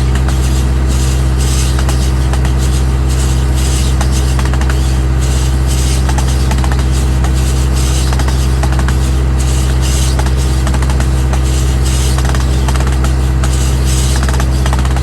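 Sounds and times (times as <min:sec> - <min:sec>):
farm machinery engine droning: 0:00.0 - 0:15.0.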